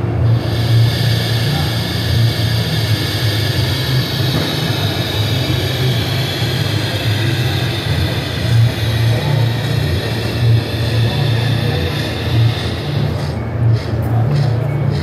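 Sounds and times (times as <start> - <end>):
steam hiss: 0.2 - 15.0.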